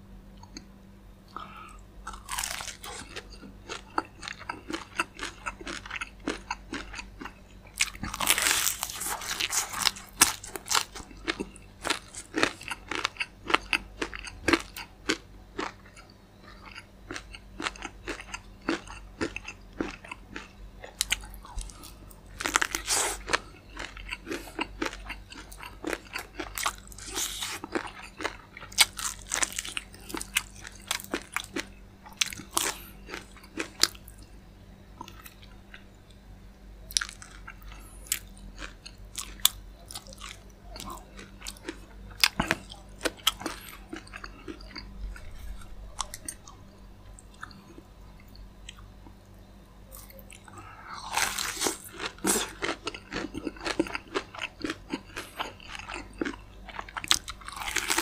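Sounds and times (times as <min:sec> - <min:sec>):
crunching fried chicken: 0:01.3 - 0:34.3, 0:36.8 - 0:58.0
wet chewing: 0:01.4 - 0:34.0, 0:36.9 - 0:46.6, 0:49.9 - 0:58.0.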